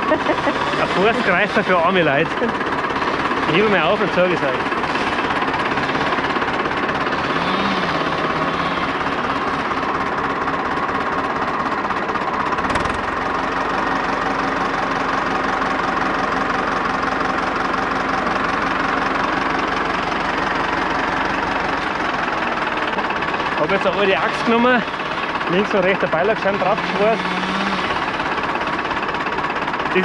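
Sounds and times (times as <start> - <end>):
hydraulics hum: 0.0 - 30.0
tractor diesel engine running: 0.0 - 30.0.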